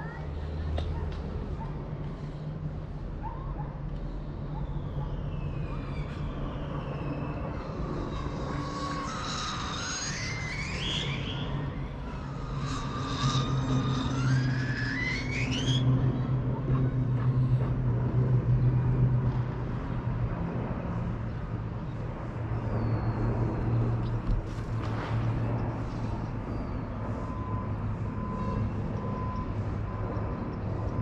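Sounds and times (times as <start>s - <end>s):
aircraft engines humming: 0.0s - 31.0s.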